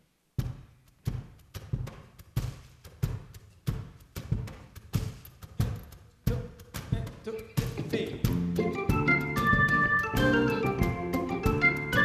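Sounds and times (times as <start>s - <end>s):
drum kit steady beat: 0.2s - 12.0s.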